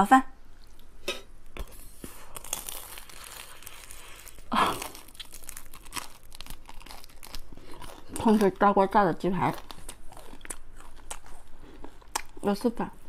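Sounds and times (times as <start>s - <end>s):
crunching and chewing crispy food: 1.6s - 13.0s.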